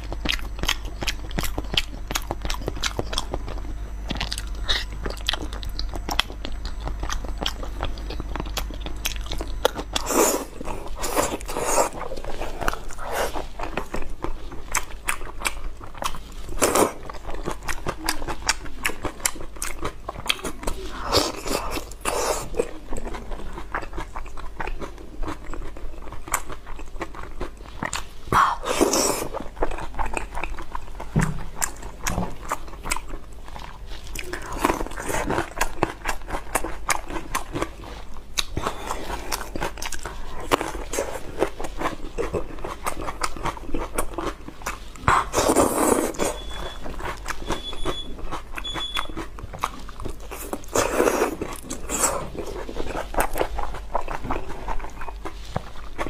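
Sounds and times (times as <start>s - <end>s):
wet chewing and smacking: 0.0s - 56.0s.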